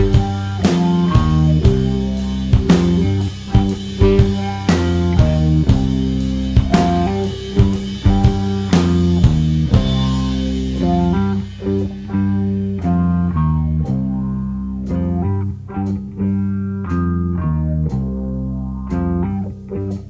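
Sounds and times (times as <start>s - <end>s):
bass and electric guitar riff: 0.0s - 20.0s.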